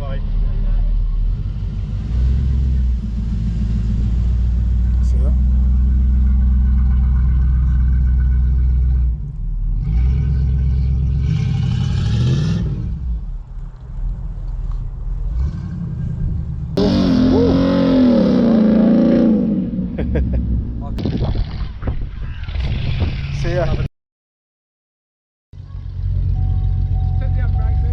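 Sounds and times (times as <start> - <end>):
car engine rumbling and revving: 0.0 - 23.9, 25.6 - 27.9.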